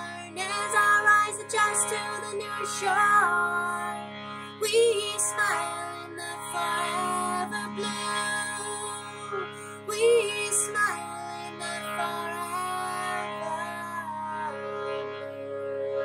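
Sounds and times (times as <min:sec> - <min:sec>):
woman singing: 0:00.0 - 0:14.6
harmonium chord: 0:00.0 - 0:16.0.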